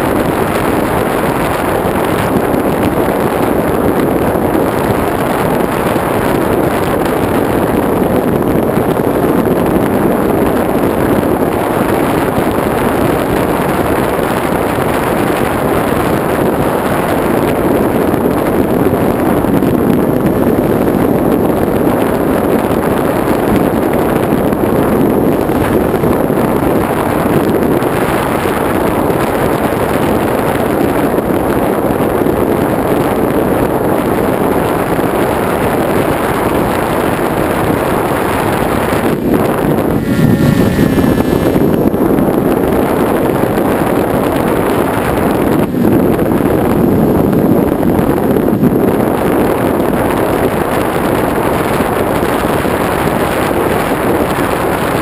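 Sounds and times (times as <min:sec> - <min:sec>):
electric motor and propeller: 0:00.0 - 0:55.0
wind rushing: 0:00.0 - 0:55.0.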